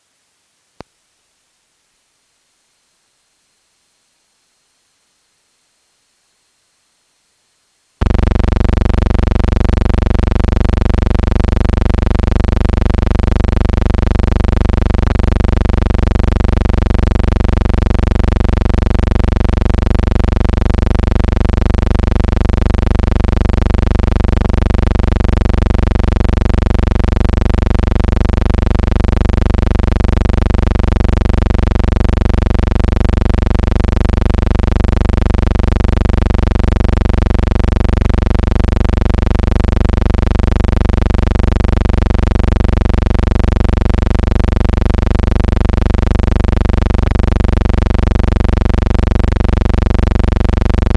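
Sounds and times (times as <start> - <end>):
loud electrical buzz: 8.0 - 50.9.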